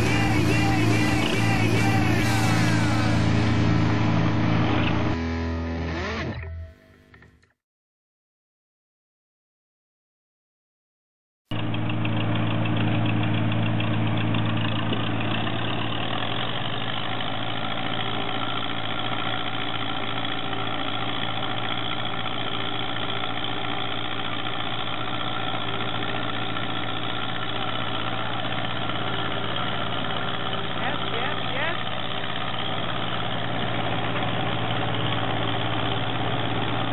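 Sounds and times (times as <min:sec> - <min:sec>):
tractor diesel engine idling: 0:00.0 - 0:05.2, 0:11.5 - 0:36.9.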